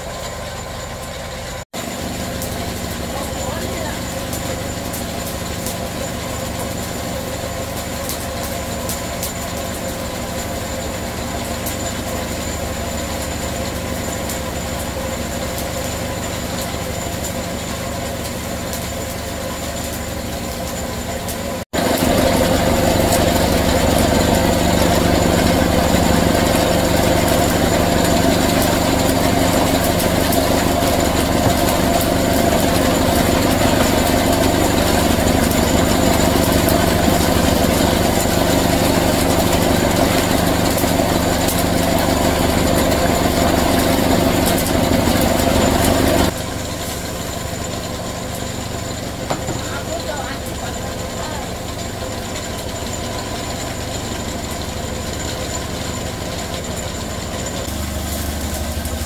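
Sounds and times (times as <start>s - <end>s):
machine mechanical drone: 0.0s - 59.0s.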